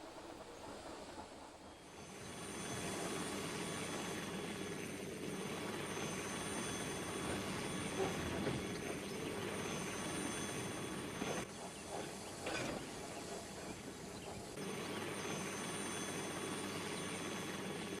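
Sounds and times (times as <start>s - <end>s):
steam train hiss and rumble: 0.0s - 18.0s.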